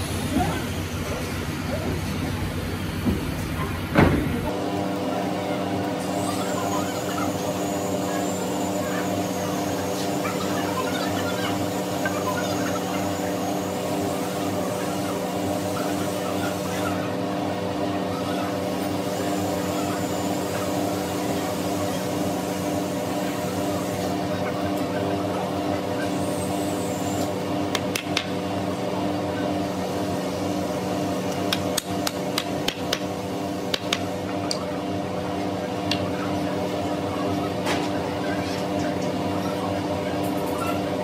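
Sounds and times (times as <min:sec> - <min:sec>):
workshop machinery hum: 0:00.0 - 0:41.0.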